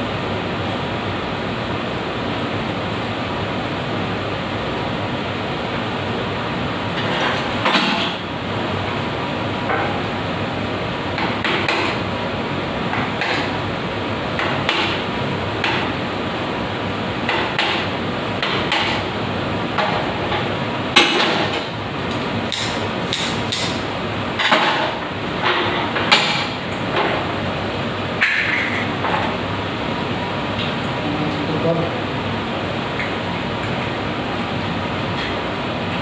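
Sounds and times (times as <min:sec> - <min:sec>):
steady background hum: 0:00.0 - 0:36.0.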